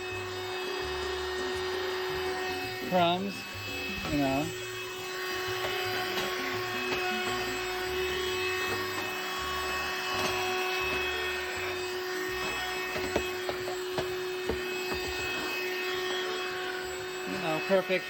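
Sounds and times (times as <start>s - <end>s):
handheld vacuum running: 0.0s - 18.0s.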